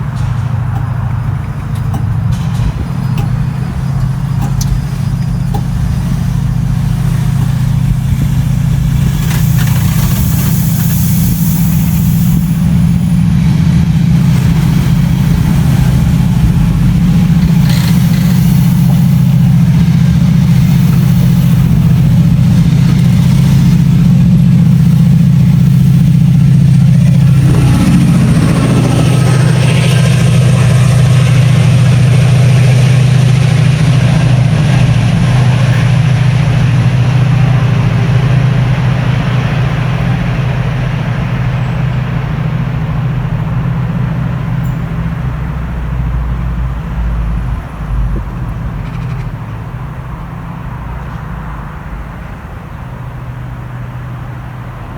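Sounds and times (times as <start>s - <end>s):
diesel train engine running: 0.0s - 54.9s.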